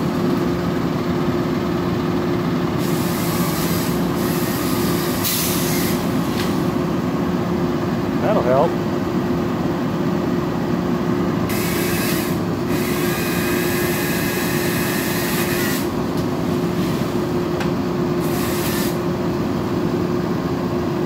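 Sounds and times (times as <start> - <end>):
truck engine hum: 0.0 - 11.5, 14.8 - 21.0.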